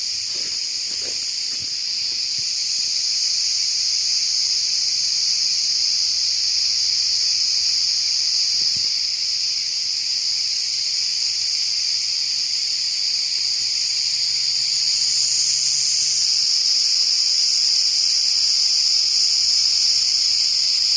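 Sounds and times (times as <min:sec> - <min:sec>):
crickets trilling: 0:00.0 - 0:20.9.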